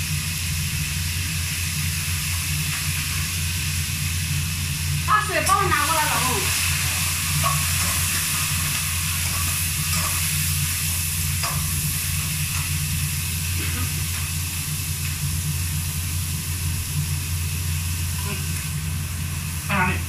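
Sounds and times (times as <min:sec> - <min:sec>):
food sizzling in a pan: 0:00.0 - 0:20.0
range hood fan humming: 0:00.0 - 0:20.0.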